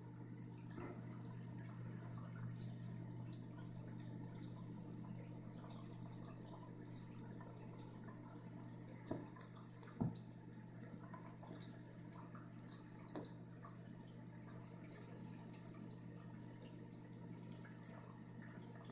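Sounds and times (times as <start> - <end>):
low room hum: 0.0 - 18.9.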